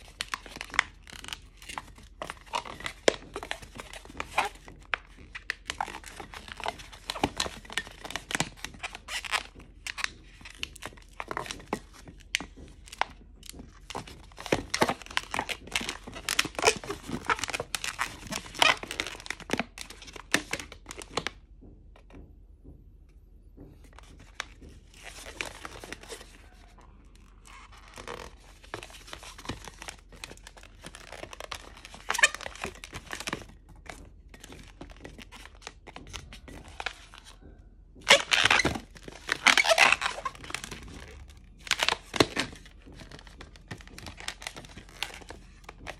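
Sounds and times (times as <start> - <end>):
balloons squeaking and rubbing: 0.0 - 21.0, 24.0 - 33.6, 38.0 - 45.9.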